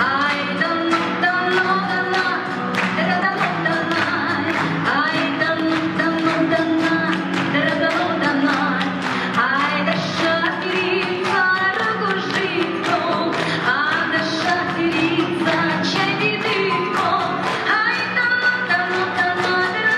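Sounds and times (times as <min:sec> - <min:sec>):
fast rhythmic accompaniment: 0:00.0 - 0:19.9
woman singing: 0:00.0 - 0:19.9.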